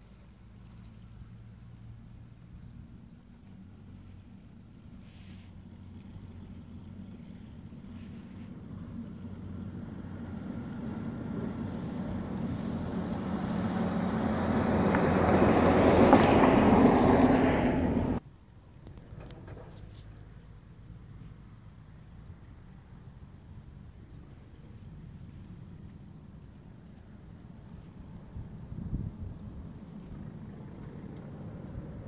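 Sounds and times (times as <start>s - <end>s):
truck passing: 0.0s - 18.2s, 18.8s - 32.0s.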